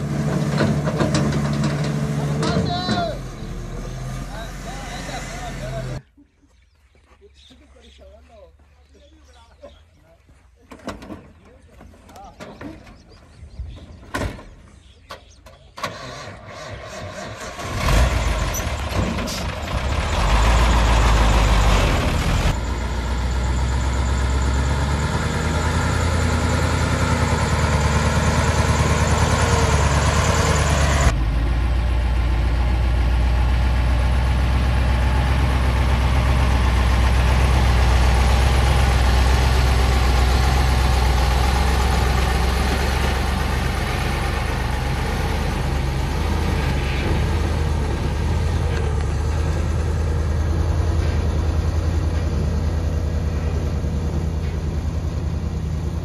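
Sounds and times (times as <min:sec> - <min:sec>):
diesel engine starting and running: 0:00.0 - 0:06.1, 0:12.2 - 0:56.0.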